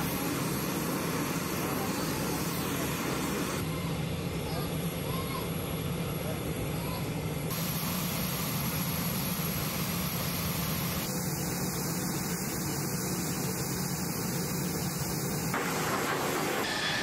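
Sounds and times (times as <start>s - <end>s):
constant low hum: 0.0s - 16.6s
jet engine noise: 0.0s - 17.0s.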